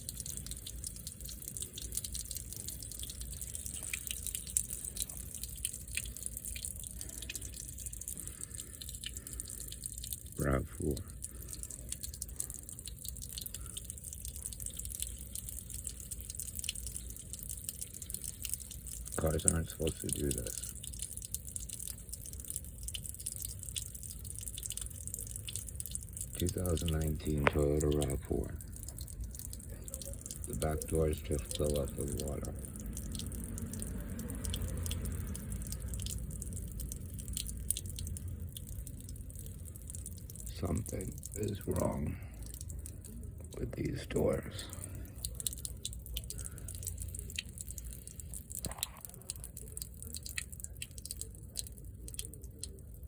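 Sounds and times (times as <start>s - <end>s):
low steady hum: 0.0s - 53.0s
water dripping and trickling: 0.0s - 53.0s.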